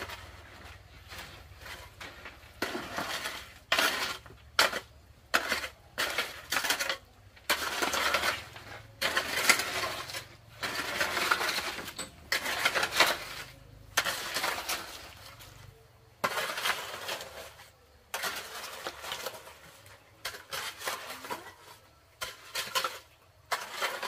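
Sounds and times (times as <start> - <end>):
hoe scraping wet concrete: 0.0 - 24.0.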